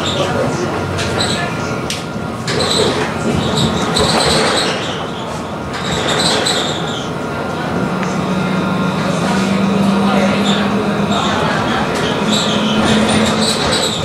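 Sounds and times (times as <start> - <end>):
tram running on rails: 0.0 - 14.0
high wheel squeal: 2.5 - 14.0.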